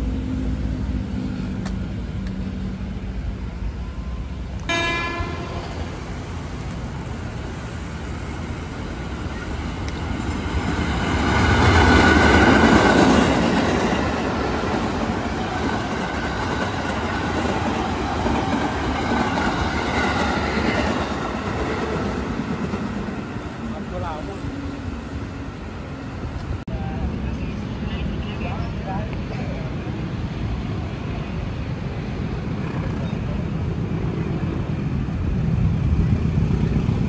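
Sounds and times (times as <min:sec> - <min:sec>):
electric train passing: 0:00.0 - 0:37.0.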